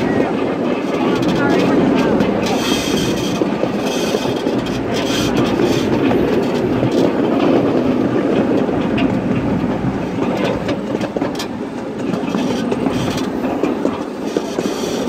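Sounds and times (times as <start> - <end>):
small steel wheels rumbling on rail: 0.0 - 15.0
wheels clicking over rail joints: 0.0 - 15.0.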